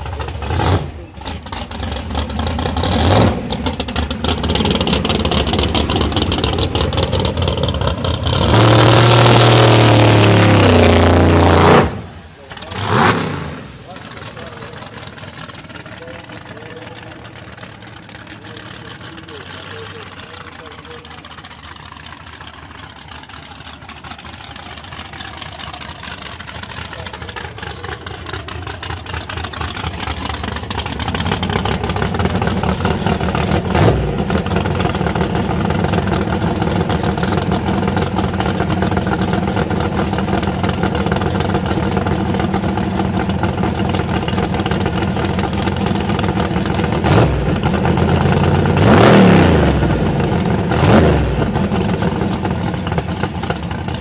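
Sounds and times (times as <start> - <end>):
engine revving: 0.0 - 22.0, 24.2 - 54.0
car engine idling: 0.0 - 54.0.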